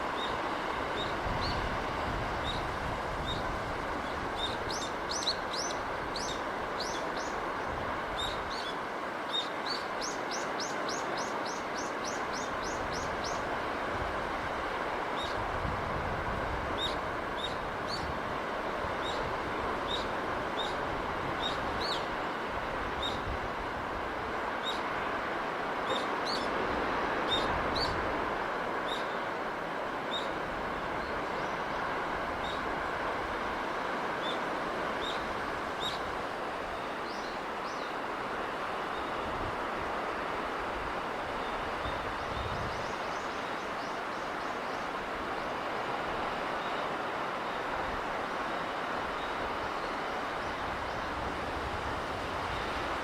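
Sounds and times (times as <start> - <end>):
sea breeze: 0.0 - 53.0
sea waves washing: 0.0 - 53.0.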